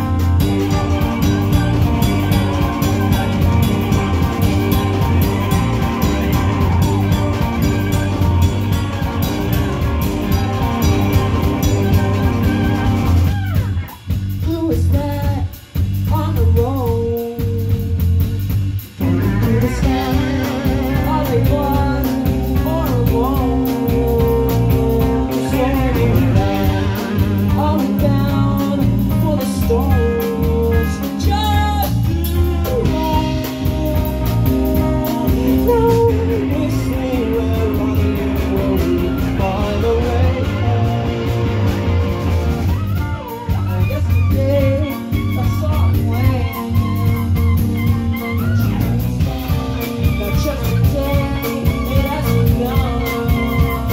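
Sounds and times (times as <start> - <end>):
person singing: 0.0 - 18.3, 19.0 - 53.9
live rock band playing: 0.0 - 53.9.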